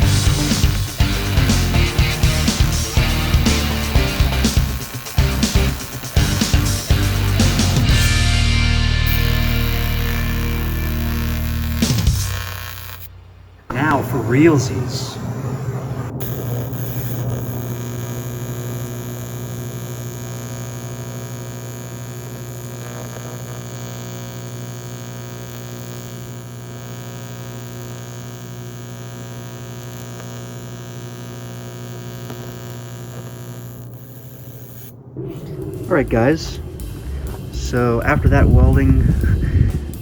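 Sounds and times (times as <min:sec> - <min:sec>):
welding arc buzzing: 0:00.0 - 0:40.0.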